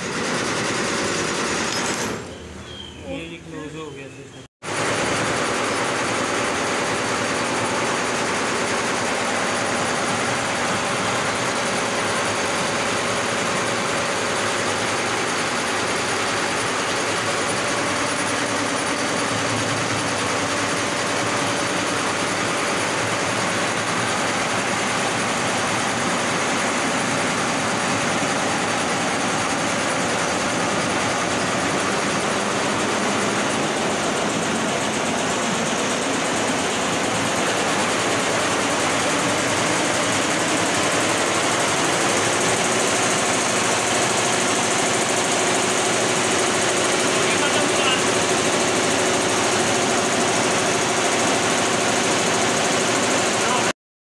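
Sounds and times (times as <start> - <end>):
embroidery machine running: 0.0 - 53.7.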